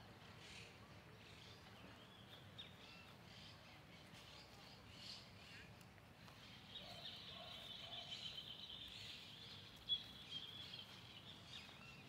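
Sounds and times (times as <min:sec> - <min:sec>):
small birds twittering: 0:00.4 - 0:12.0.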